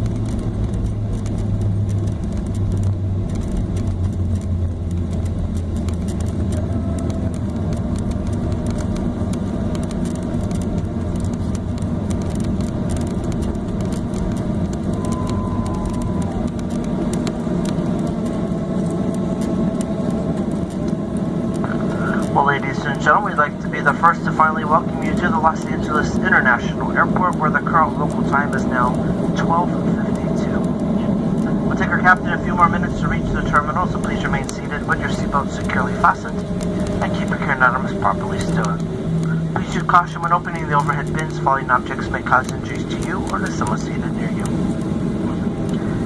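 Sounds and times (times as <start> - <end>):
aircraft engines humming: 0.0 - 46.0
continuous cabin rumble: 0.0 - 46.0.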